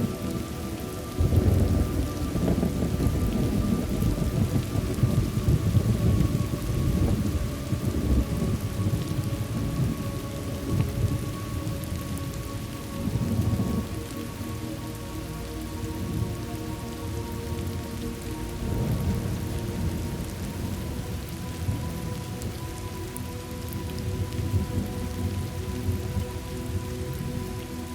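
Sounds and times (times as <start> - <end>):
low rumbling thunder: 0.0 - 14.0, 17.6 - 22.6, 23.6 - 27.5
steady rain: 0.0 - 27.9.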